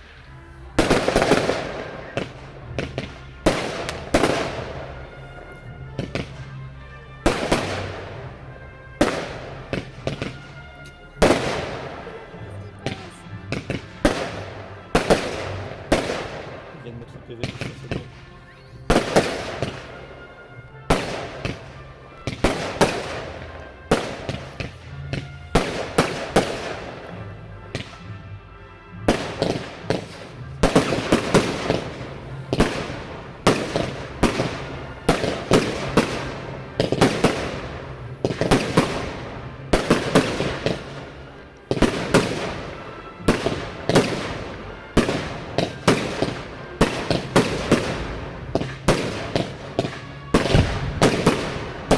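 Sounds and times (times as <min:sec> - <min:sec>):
fireworks bursting with crackle: 0:00.0 - 0:28.2, 0:29.0 - 0:51.9.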